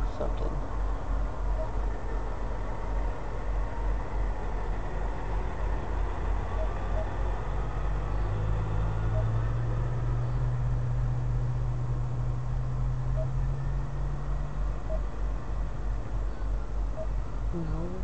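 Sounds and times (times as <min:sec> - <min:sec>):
second truck engine approaching: 0:00.0 - 0:18.0.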